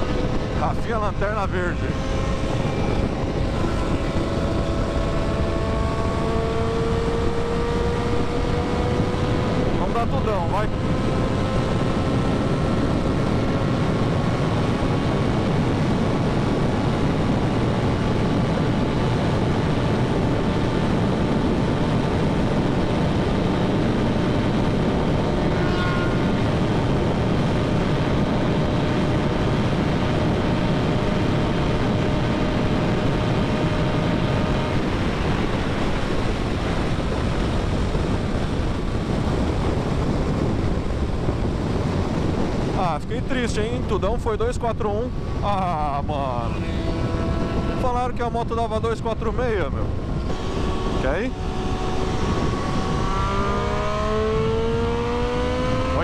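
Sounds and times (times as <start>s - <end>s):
motorcycle engine at full throttle: 0.0s - 56.0s
wind rush: 0.0s - 56.0s.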